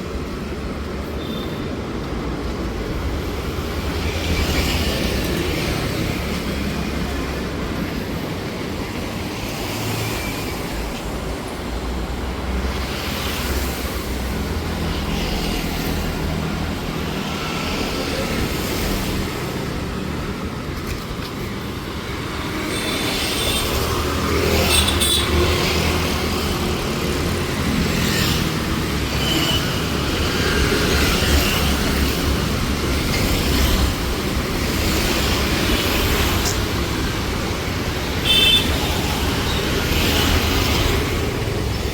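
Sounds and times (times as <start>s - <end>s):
street traffic rumble: 0.0s - 41.9s.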